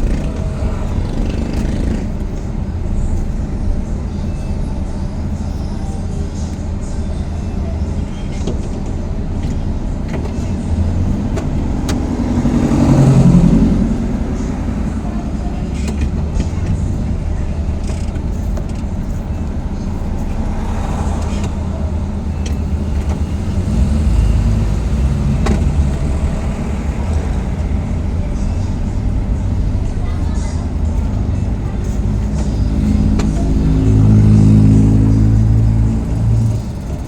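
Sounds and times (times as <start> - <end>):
low rumble of motor vehicles: 0.0 - 37.0.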